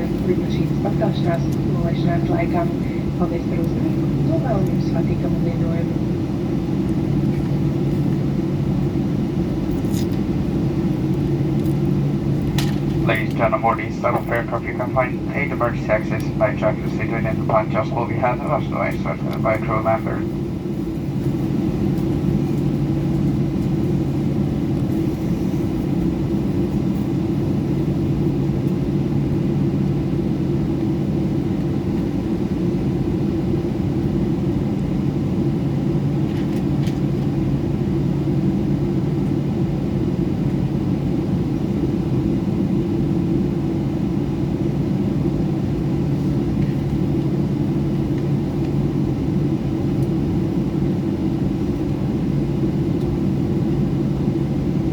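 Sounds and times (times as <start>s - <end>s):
jet engine cabin hum: 0.0s - 54.9s.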